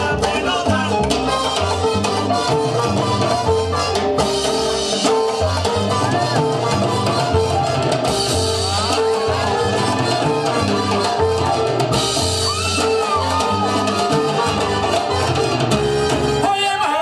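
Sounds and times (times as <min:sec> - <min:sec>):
salsa music: 0:00.0 - 0:17.0.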